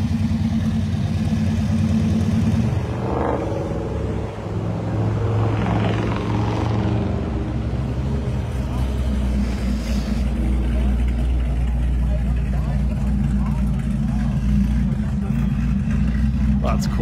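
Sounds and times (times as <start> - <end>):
car engine running: 0.0 - 17.0
deeper engine note: 0.0 - 17.0.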